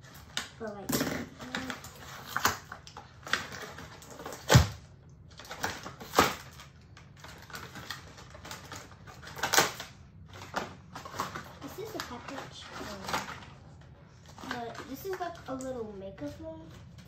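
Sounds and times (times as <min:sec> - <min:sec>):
packaging rustling and crinkling: 0:00.0 - 0:17.0.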